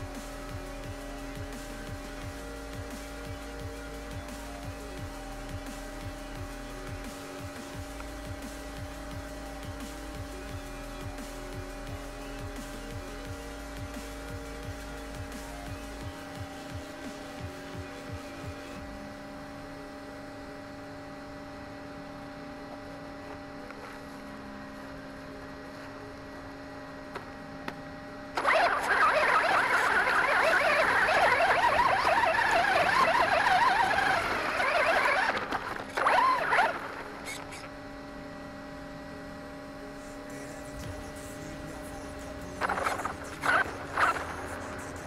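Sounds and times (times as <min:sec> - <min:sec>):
electrical hum: 0:00.0 - 0:45.0
rc truck motor whine: 0:00.0 - 0:45.0.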